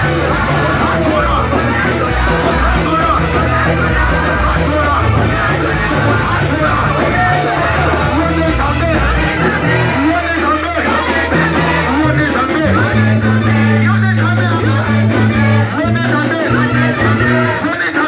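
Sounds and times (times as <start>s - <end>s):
bass guitar held notes: 0.0s - 17.7s
guitar: 0.0s - 18.0s
people singing: 0.0s - 18.0s.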